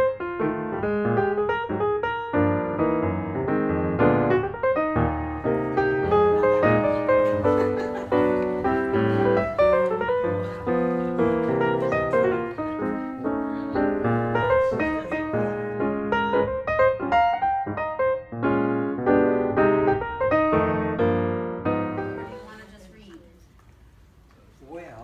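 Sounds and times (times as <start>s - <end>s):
solo piano music: 0.0s - 22.6s.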